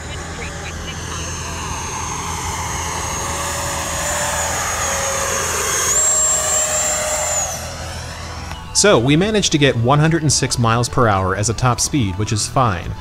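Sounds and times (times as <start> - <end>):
model jet whine flying by: 0.0 - 11.8.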